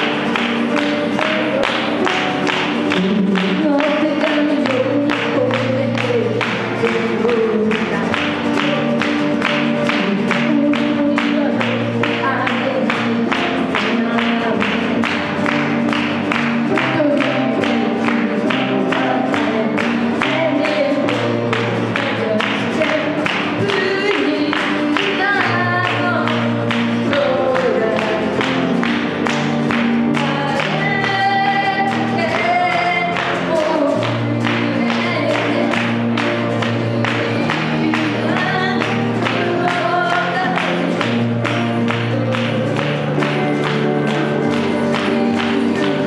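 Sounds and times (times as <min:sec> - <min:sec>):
acoustic guitar strumming: 0:00.0 - 0:46.0
woman singing: 0:00.0 - 0:46.0.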